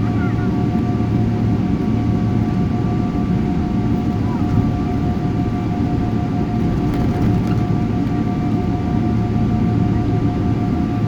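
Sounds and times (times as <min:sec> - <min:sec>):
deep rumble of engines and airflow: 0:00.0 - 0:11.0
high jet engine hum: 0:00.0 - 0:11.0.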